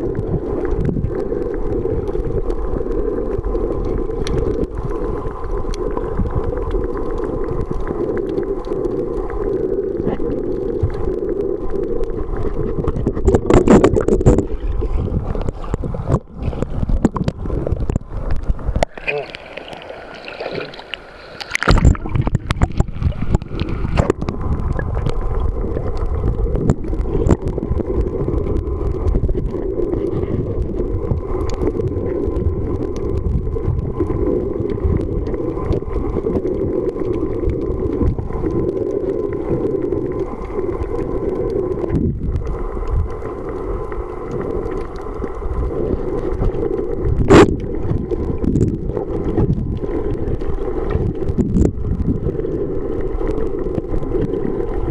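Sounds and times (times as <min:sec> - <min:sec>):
underwater rumble and sloshing: 0:00.0 - 0:54.9.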